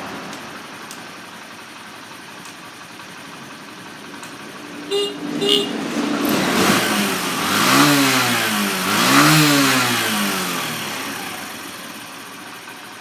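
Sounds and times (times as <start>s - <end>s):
motorcycle engine revving: 0.1s - 13.0s.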